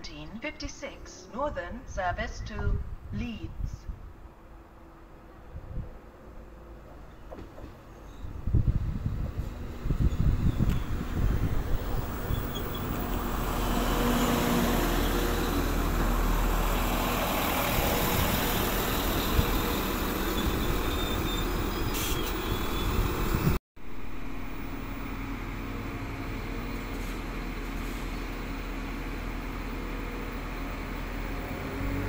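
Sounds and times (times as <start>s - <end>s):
train diesel engines droning: 4.0s - 32.0s.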